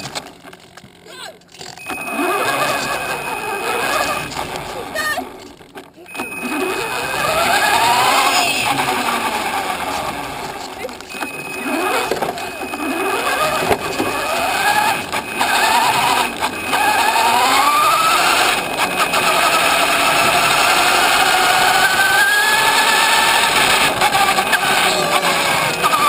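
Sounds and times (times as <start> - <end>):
toy car motor whining: 0.0 - 26.0
tyre and road noise: 0.0 - 26.0.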